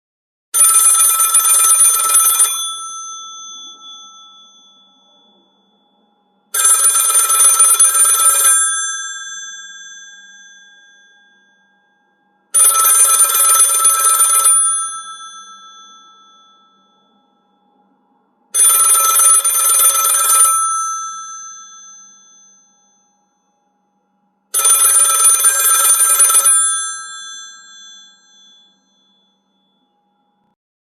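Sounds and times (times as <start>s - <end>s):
telephone bell ringing: 0.6s - 17.5s, 18.6s - 23.5s, 24.5s - 29.8s.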